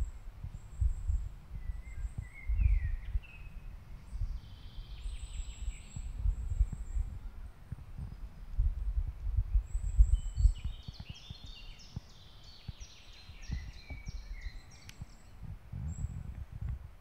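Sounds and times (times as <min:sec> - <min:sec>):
songbird singing short notes: 0:00.0 - 0:07.4, 0:09.5 - 0:16.4
low wind rumble: 0:00.0 - 0:17.0.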